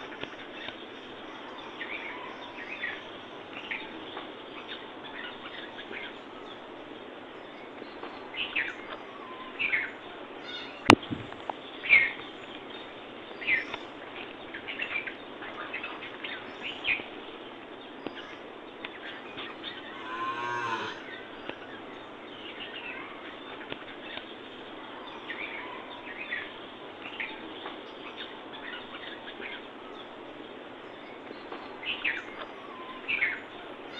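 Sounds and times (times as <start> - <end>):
outdoor background hiss: 0.0 - 33.9
small birds chirping: 0.0 - 33.9.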